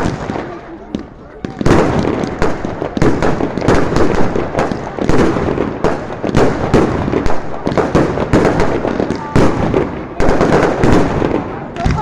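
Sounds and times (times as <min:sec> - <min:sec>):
firework bangs: 0:00.0 - 0:12.0
firework crackle: 0:00.0 - 0:12.0.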